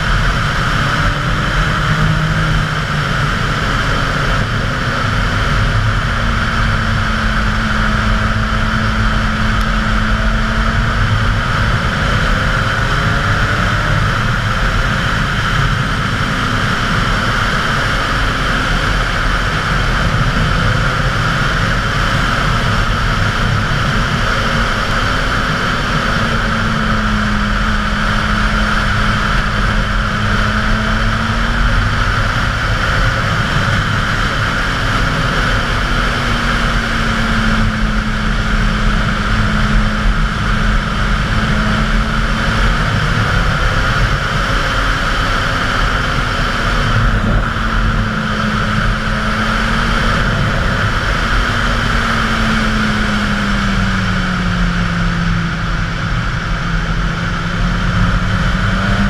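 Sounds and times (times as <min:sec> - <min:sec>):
motorcycle engine cruising: 0:00.0 - 0:59.0
wind rushing on microphone: 0:00.0 - 0:59.0.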